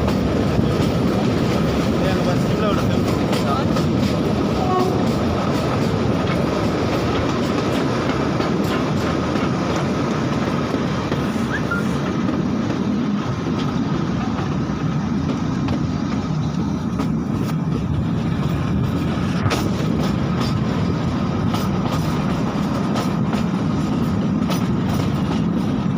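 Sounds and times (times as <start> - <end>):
train rumbling: 0.0 - 25.9
train wheels clicking and knocking: 0.0 - 25.9.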